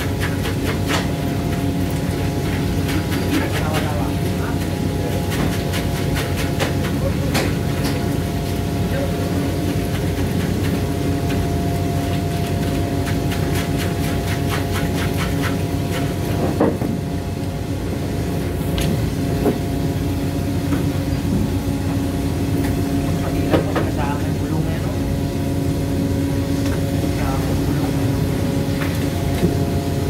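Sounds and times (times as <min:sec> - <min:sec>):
boat machinery droning: 0:00.0 - 0:30.0.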